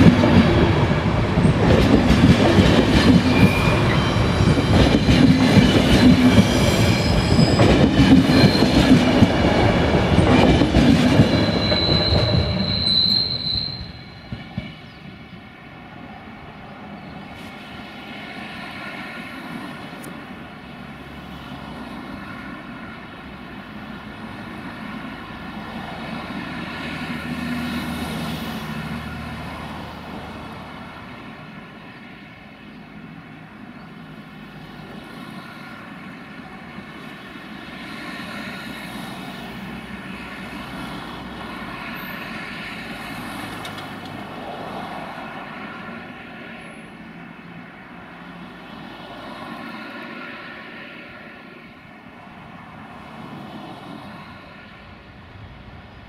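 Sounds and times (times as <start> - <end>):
passenger train moving away: 0.0 - 56.0.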